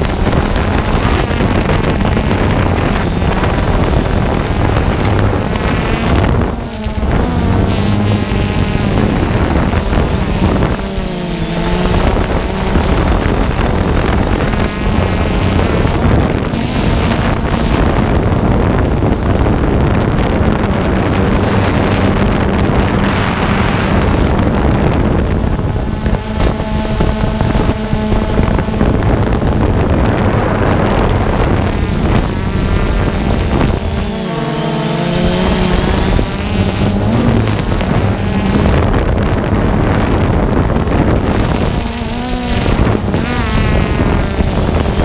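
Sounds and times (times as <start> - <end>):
drone propellers buzzing: 0.0 - 45.0
wind rushing over microphone: 0.0 - 45.0.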